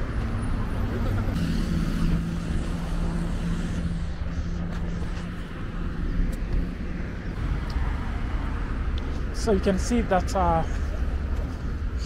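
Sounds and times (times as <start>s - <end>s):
engine hum: 0.0s - 12.0s
traffic rumble: 0.0s - 12.0s.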